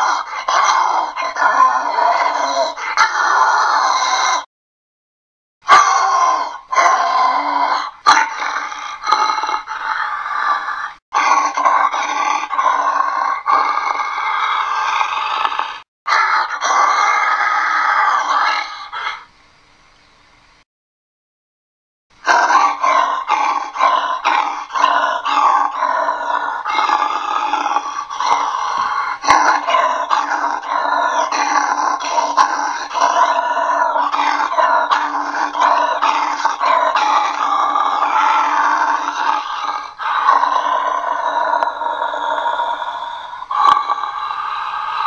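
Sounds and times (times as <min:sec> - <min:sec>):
person growling through tube: 0:00.0 - 0:04.5, 0:05.7 - 0:19.2, 0:22.2 - 0:45.0.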